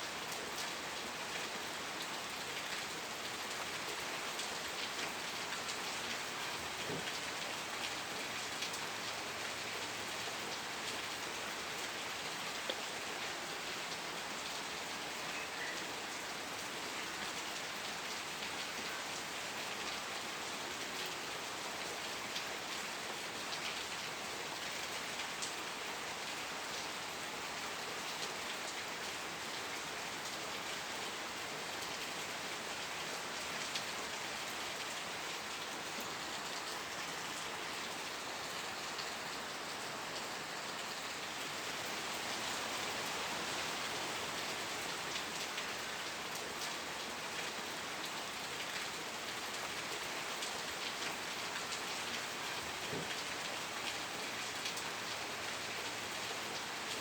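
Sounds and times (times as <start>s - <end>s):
rain falling: 0.0s - 57.0s
raindrops pattering on a surface: 0.1s - 57.0s.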